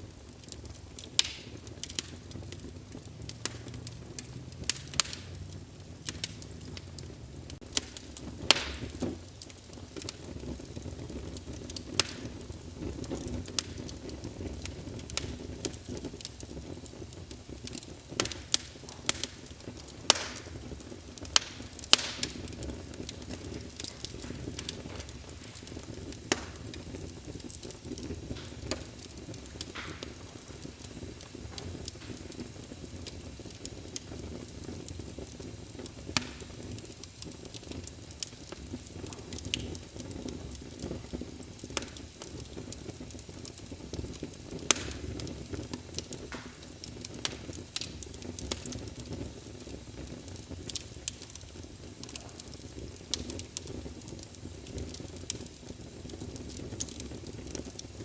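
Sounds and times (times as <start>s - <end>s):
low rumble of flames: 0.0s - 58.0s
sharp fire pops: 0.0s - 58.0s
wood fire crackling: 0.0s - 58.0s.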